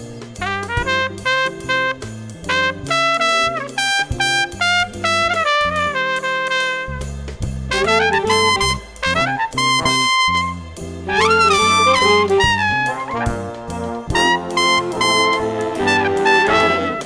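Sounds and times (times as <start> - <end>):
bass notes: 0.0 - 17.0
big band jazz: 0.0 - 17.0
bright trumpet line: 0.4 - 17.0.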